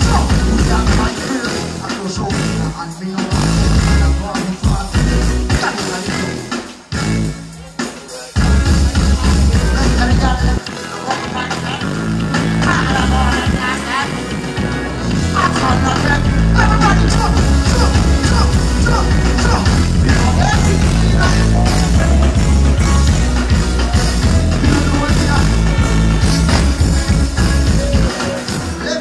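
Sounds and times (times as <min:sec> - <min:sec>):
loud dancehall music with bass: 0:00.0 - 0:29.0
person singing over beat: 0:00.0 - 0:29.0.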